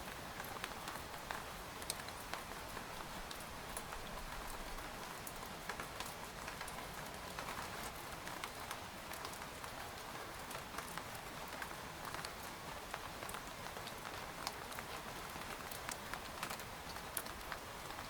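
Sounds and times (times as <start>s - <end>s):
rain pattering on tent fabric: 0.0s - 18.0s.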